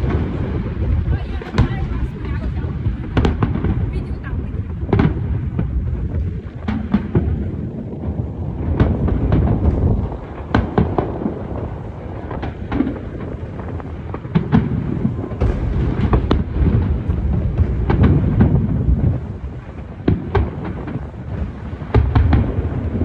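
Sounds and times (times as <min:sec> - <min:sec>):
fireworks cracking: 0:00.0 - 0:23.0
low rumble of booms: 0:00.0 - 0:23.0.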